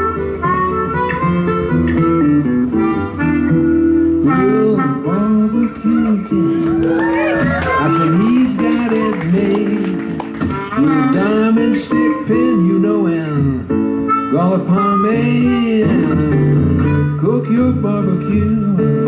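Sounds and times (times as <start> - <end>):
harmonica solo: 0.0 - 6.2, 7.1 - 19.0
acoustic guitars: 0.0 - 19.0.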